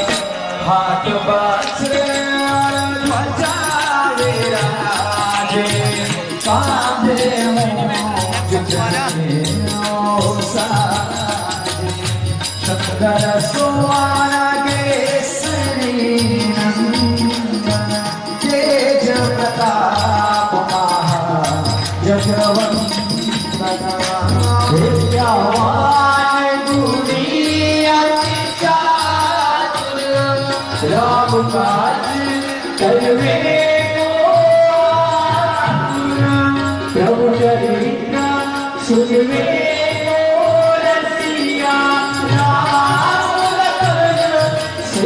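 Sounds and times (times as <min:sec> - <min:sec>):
harmonium: 0:00.0 - 0:45.0
jingling hand percussion: 0:00.0 - 0:45.0
steady drum beat: 0:01.8 - 0:38.3.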